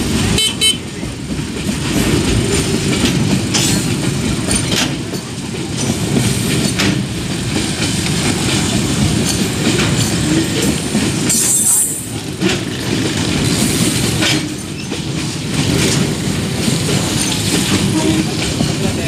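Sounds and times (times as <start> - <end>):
freight train rumbling past: 0.0 - 19.0
wheels clacking over rail joints: 0.0 - 19.0.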